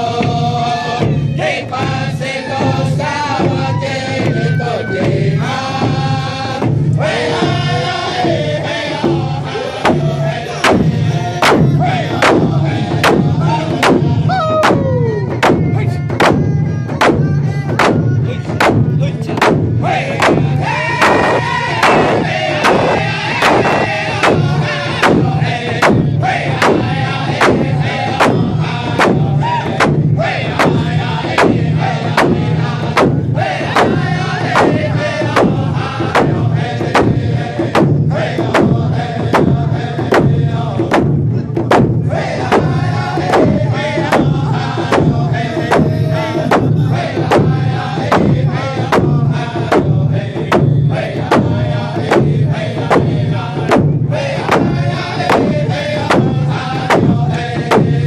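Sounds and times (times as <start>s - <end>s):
group of men singing: 0.0s - 58.0s
hand drums beating: 0.0s - 58.0s.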